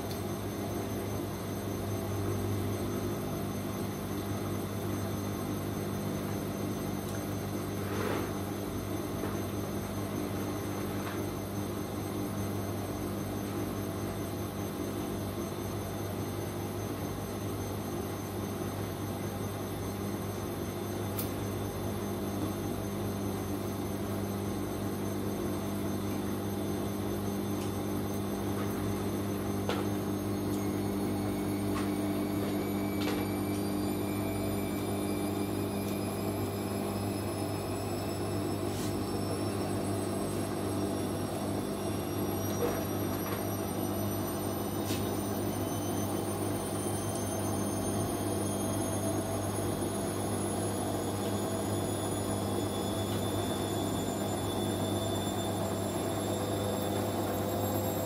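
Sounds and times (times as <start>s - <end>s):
thin high whine: 0.0s - 58.0s
washing machine humming: 0.0s - 58.0s.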